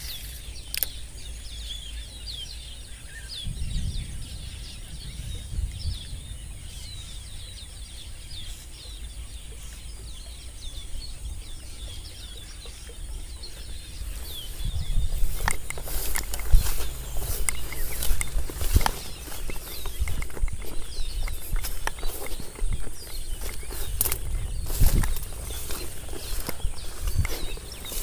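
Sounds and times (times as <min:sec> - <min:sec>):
birds chirping: 0:00.0 - 0:28.0
footsteps through grass: 0:04.6 - 0:28.0.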